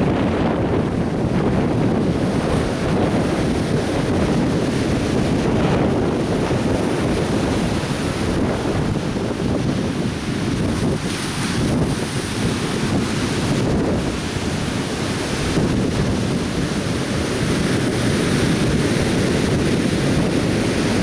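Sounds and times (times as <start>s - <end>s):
surf waves washing on beach: 0.0s - 21.0s
wind buffeting microphone: 0.0s - 21.0s.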